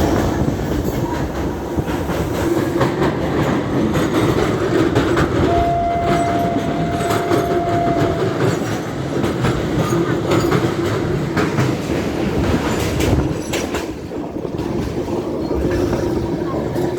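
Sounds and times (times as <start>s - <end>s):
train rumbling on rails: 0.0s - 16.9s
wheels clacking over rail joints: 0.0s - 16.9s.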